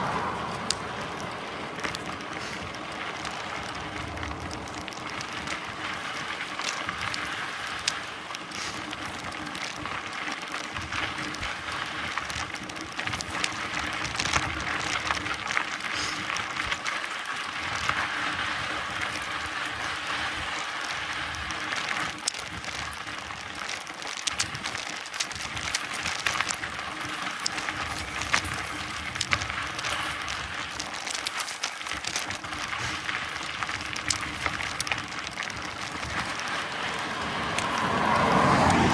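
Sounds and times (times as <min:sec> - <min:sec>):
bike clicks and rattles: 0:00.0 - 0:38.9
bike tyres rolling: 0:00.0 - 0:38.9
long grass brushing bike: 0:00.0 - 0:38.9.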